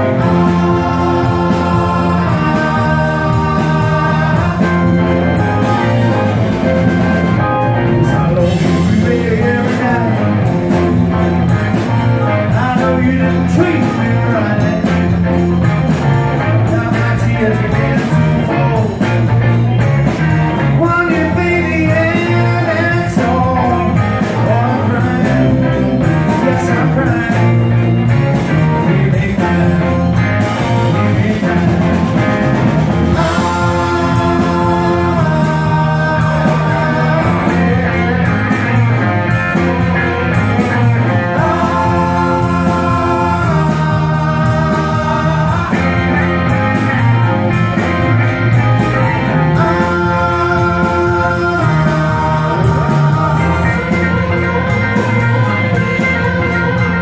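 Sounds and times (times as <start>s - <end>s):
man singing: 0.0s - 47.8s, 48.5s - 57.0s
bass guitar: 0.0s - 57.0s
drums with cymbal beat: 0.0s - 57.0s
electric guitar: 0.0s - 57.0s
electric keyboard: 0.0s - 57.0s.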